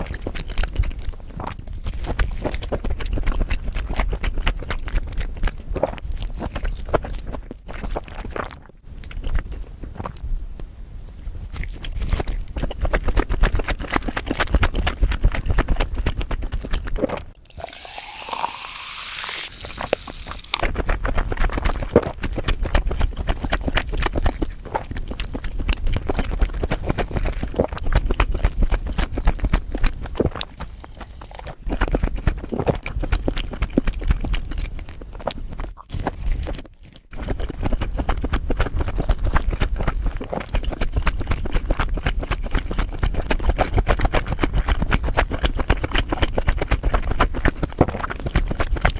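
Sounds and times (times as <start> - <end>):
crunching and chewing food: 0.0 - 48.9.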